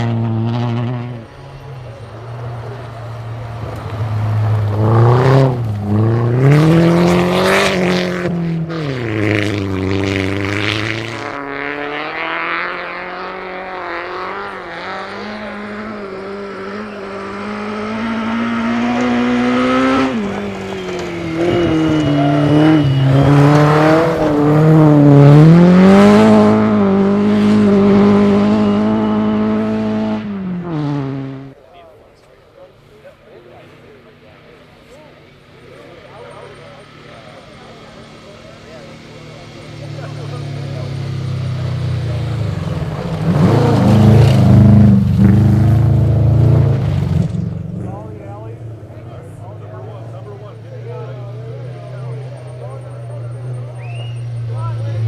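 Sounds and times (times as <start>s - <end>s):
rally car engine revving: 0.0s - 32.4s, 33.0s - 55.0s
engine crackles: 0.0s - 55.0s.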